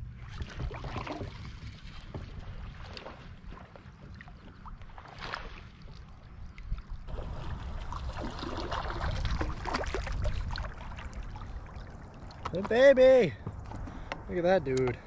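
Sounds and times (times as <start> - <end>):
low wind rumble on microphone: 0.0 - 12.7
water splashing and gurgling: 0.0 - 12.9.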